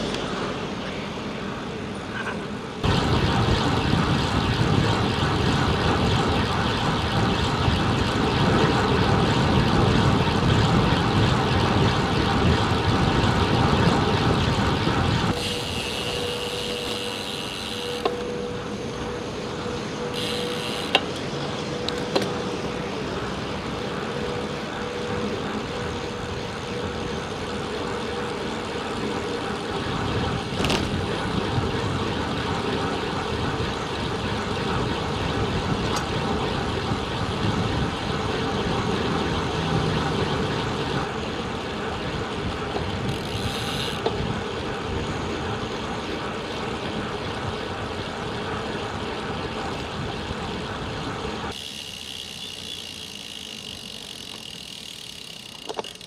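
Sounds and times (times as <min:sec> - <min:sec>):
bike road noise: 0:00.0 - 0:56.0.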